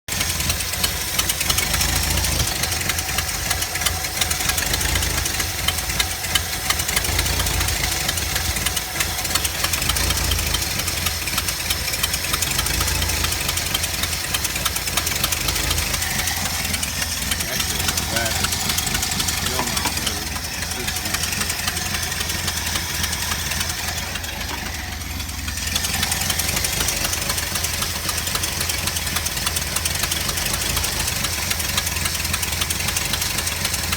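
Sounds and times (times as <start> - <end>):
engine idling with rapid ticks: 0.0 - 33.9.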